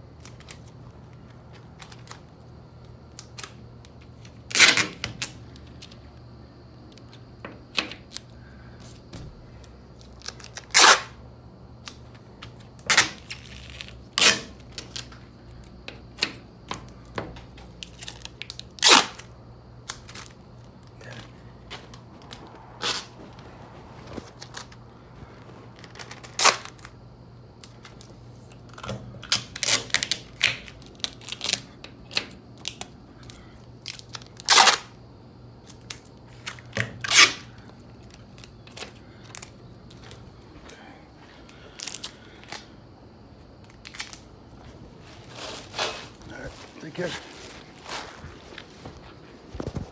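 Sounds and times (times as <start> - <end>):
faint low hum: 0.0 - 49.9.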